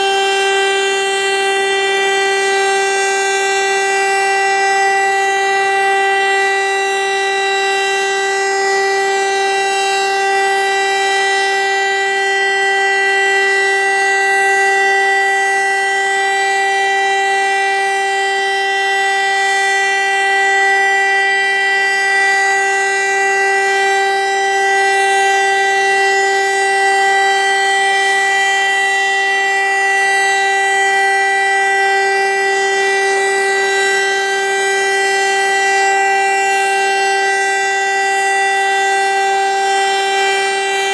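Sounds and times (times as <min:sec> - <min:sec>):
rotor siren steady tone: 0:00.0 - 0:40.9.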